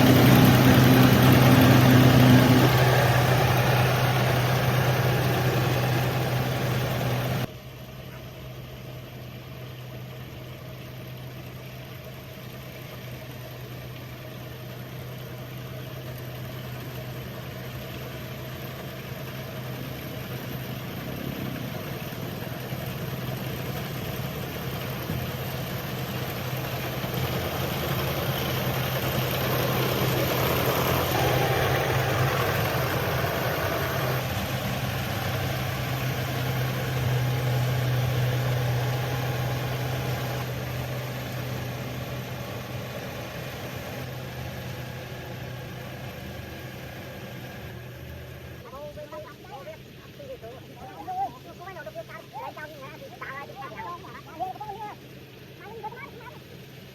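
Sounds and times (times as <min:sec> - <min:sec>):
combine harvester engine running: 0:00.0 - 0:56.9.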